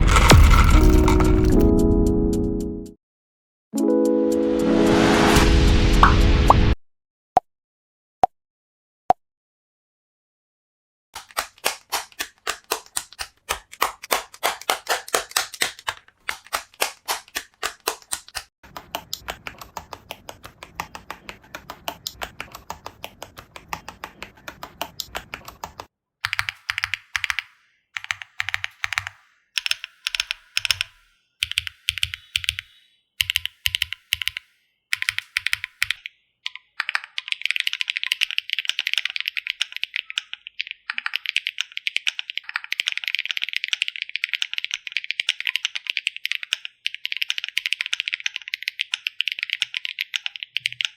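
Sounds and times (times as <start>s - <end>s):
mechanical keyboard typing: 0.0s - 1.7s, 11.2s - 50.9s.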